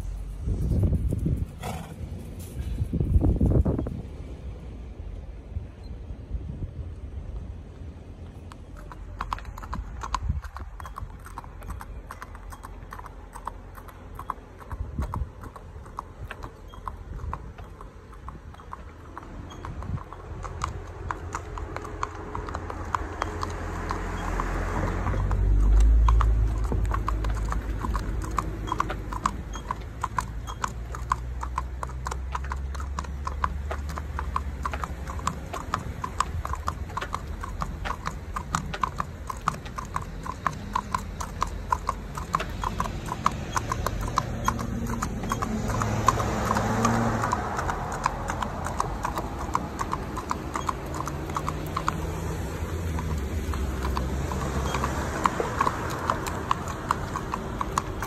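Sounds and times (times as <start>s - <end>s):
horse hooves clip-clopping on road: 0.0s - 5.6s, 6.4s - 58.0s.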